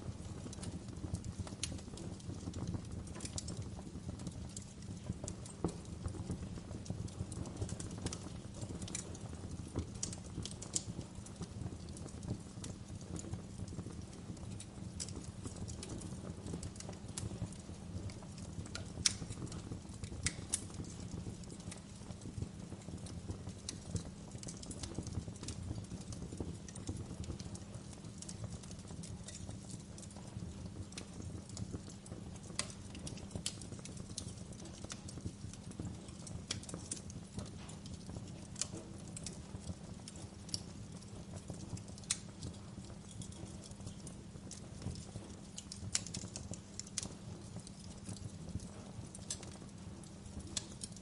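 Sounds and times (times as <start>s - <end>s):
low rumble of flames: 0.0s - 51.0s
wood fire crackling: 0.0s - 51.0s.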